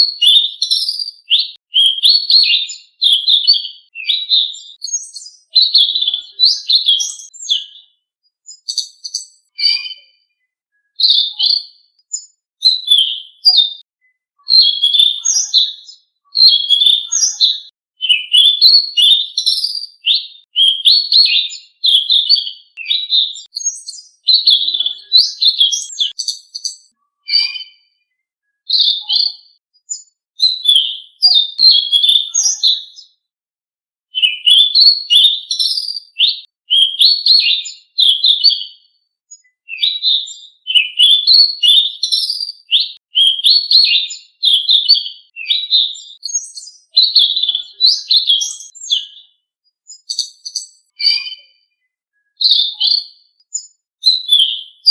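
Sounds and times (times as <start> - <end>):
songbird singing high chirps: 0.0 - 33.2, 34.1 - 54.9.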